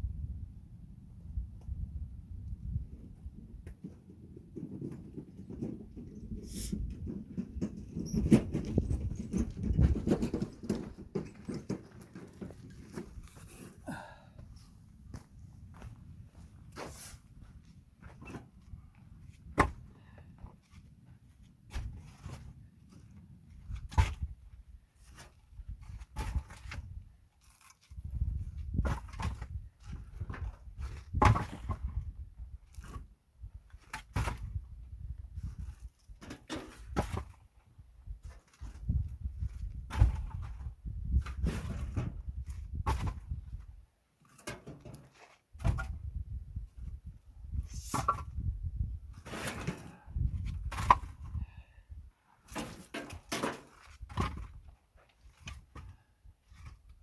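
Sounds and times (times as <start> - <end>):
knocks and scrapes: 3.6 - 14.0, 15.1 - 24.4, 25.0 - 33.1, 33.7 - 34.7, 35.4 - 37.5, 38.2 - 51.5, 52.4 - 57.0.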